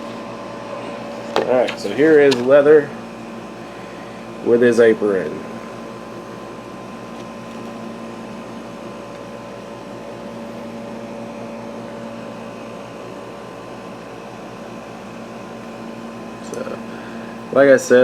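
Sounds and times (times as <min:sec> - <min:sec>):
machine hum with constant tones: 0:00.0 - 0:18.0.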